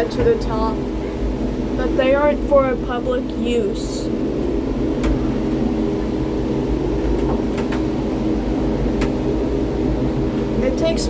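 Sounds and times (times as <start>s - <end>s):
tram capsule humming: 0.0s - 11.0s.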